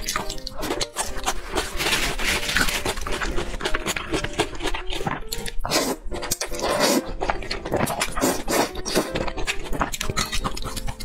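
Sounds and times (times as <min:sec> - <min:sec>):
noodle slurping: 0:00.0 - 0:11.0
wet chewing: 0:00.0 - 0:11.0.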